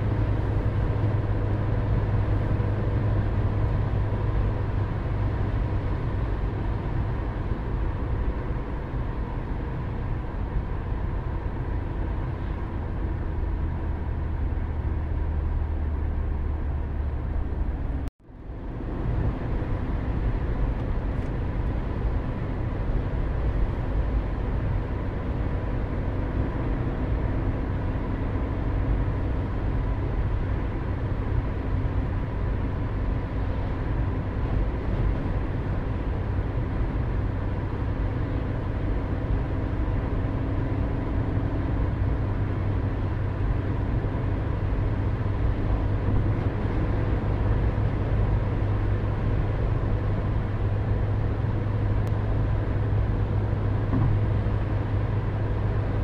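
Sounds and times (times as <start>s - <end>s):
car driving on highway: 0.0s - 56.0s.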